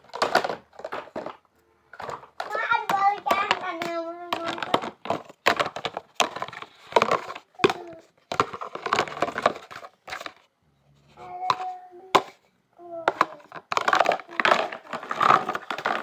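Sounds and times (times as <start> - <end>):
toy parts clattering: 0.0 - 10.5, 13.0 - 16.0.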